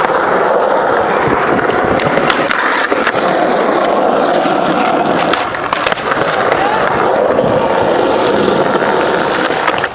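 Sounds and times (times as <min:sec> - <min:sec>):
skateboard clacks: 0:00.0 - 0:09.9
skateboard wheels rolling: 0:00.0 - 0:09.9.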